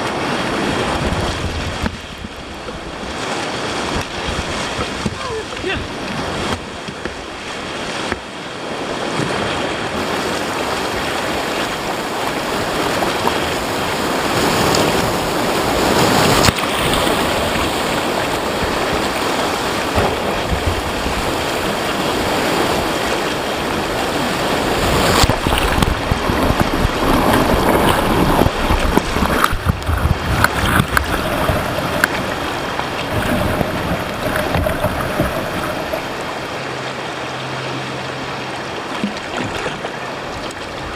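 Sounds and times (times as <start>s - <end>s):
water splashes: 0.0s - 40.9s
whitewater rushing: 0.0s - 40.9s.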